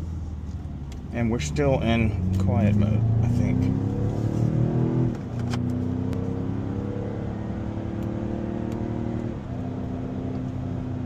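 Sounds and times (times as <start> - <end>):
car engine drone inside cabin: 0.0 - 11.0.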